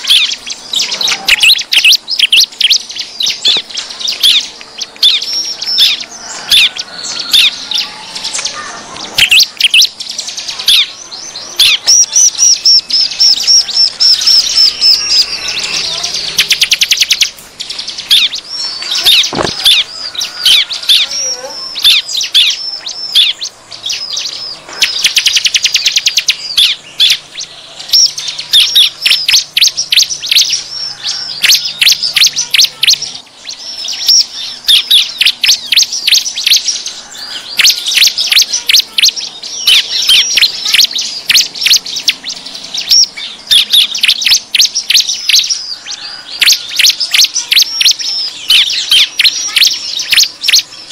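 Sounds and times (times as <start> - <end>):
birds chirping and trilling: 0.0 - 50.9.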